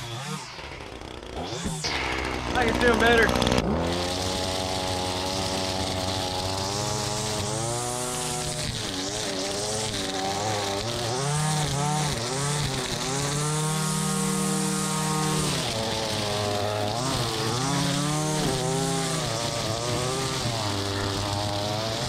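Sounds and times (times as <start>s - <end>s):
string trimmer engine cutting grass: 0.0s - 22.0s.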